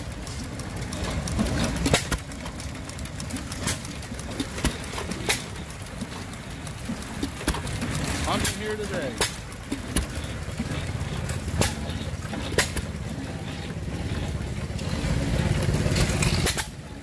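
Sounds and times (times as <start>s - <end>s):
small gas engine popping: 0.0s - 17.0s.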